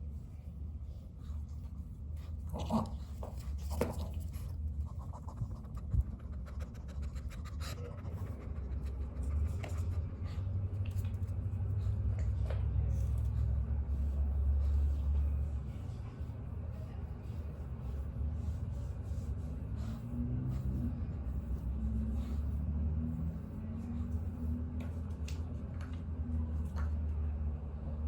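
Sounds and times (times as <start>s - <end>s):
small dog panting: 1.0s - 25.4s.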